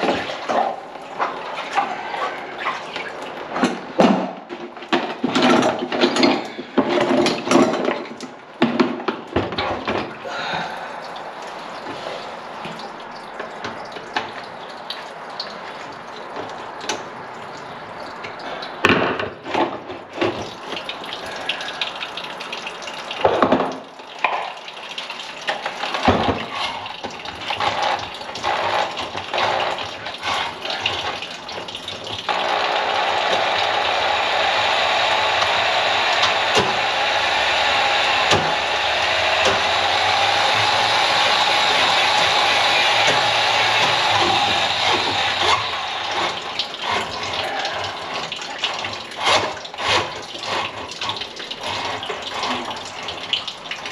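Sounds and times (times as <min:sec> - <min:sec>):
electric drain cleaning machine: 0:00.0 - 0:10.8, 0:20.2 - 0:53.9.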